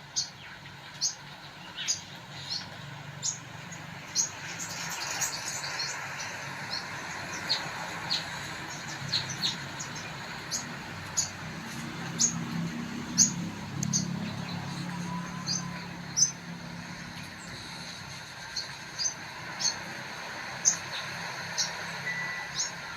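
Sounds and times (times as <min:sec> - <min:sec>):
bird chirping: 0:00.0 - 0:22.9.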